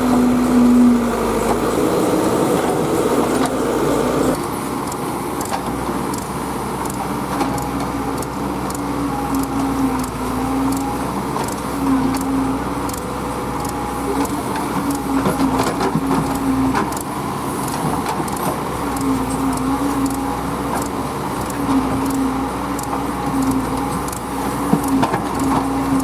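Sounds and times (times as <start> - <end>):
diesel engine droning: 0.0 - 26.0
scattered clicks and knocks: 2.5 - 26.0.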